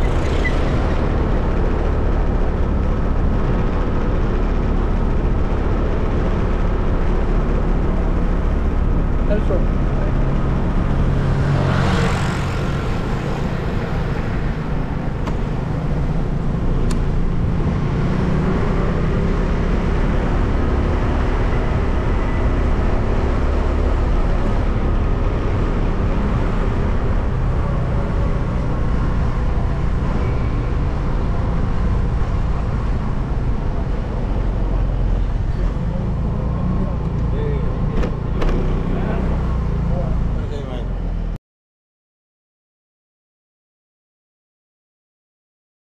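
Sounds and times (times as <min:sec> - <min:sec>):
road noise: 0:00.0 - 0:41.4
vehicle driving rumble: 0:00.0 - 0:41.4.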